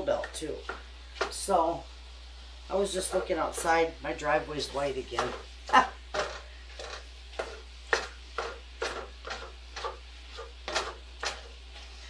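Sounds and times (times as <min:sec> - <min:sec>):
spatula scraping in a skillet: 0:00.0 - 0:12.0.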